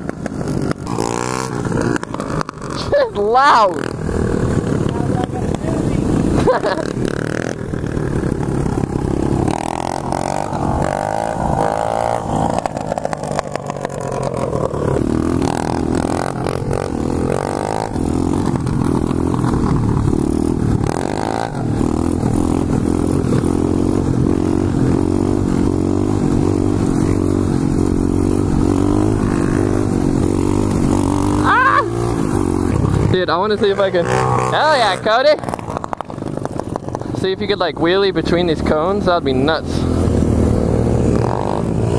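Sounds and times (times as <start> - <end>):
motorbike engine revving: 0.0 - 41.9.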